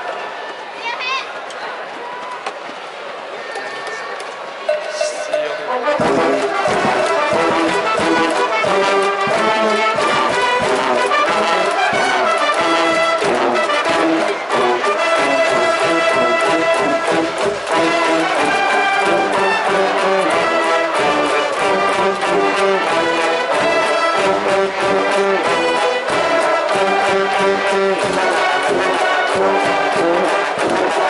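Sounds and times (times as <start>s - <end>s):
brass band playing cheer song: 4.7s - 31.0s
steady drumbeat: 4.7s - 31.0s.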